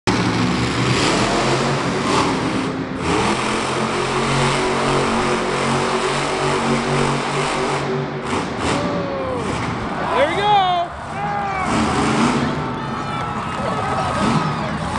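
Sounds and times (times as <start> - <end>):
truck engine at high revs: 0.0 - 12.8, 13.8 - 14.9.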